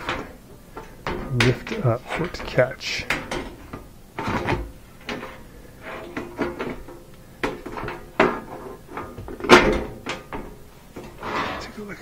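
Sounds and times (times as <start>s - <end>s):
metal panel rattling and clanking: 0.0s - 11.8s.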